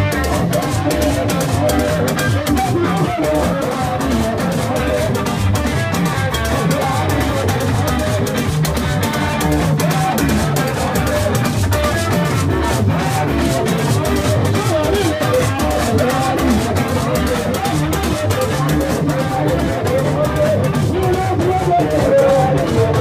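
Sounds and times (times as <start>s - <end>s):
live band music: 0.0s - 23.0s.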